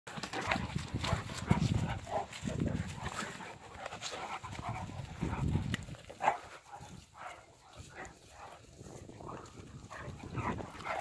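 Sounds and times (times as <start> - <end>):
dogs growling: 0.1 - 11.0
dogs panting: 0.1 - 11.0.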